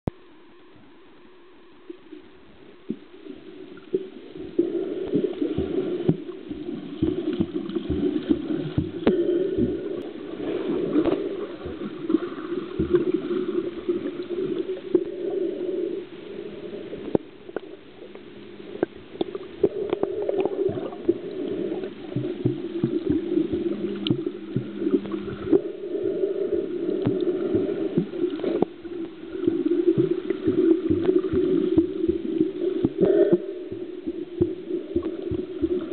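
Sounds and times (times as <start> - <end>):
water gurgling and sloshing: 1.8 - 35.9.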